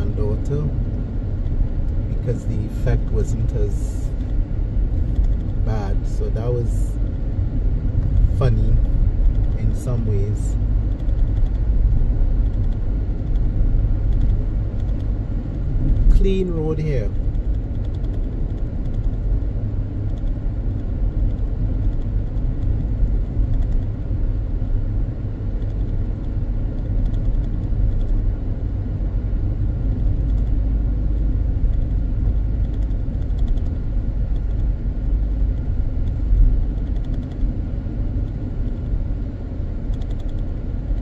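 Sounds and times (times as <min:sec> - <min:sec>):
car interior road rumble: 0:00.0 - 0:41.0.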